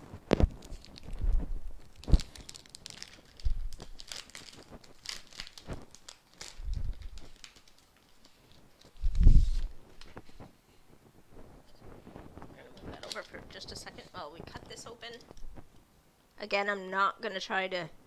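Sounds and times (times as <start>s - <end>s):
packaging rustling and crinkling: 0.0s - 15.7s.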